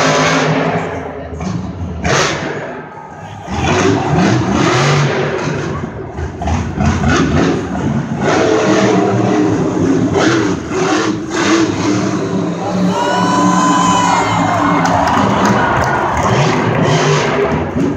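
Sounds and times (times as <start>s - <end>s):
truck engine revving hard: 0.0s - 17.9s.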